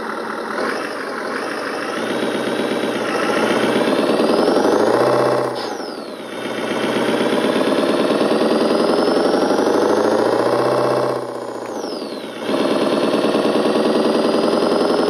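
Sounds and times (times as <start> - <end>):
simulated engine revving: 0.0 - 15.0.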